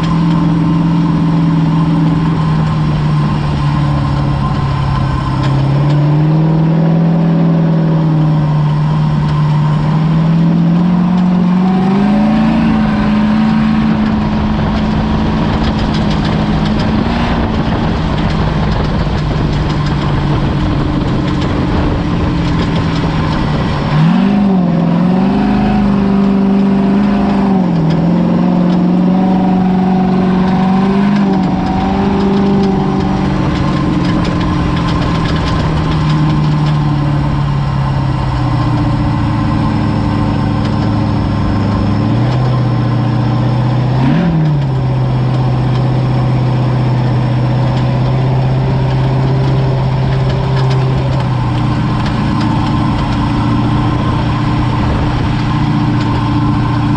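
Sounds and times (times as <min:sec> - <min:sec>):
truck engine running at low revs: 0:00.0 - 0:56.9.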